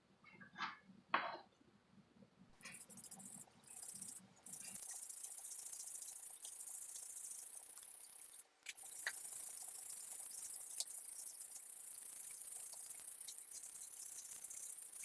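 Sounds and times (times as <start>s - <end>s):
spray can hissing: 2.6s - 15.0s.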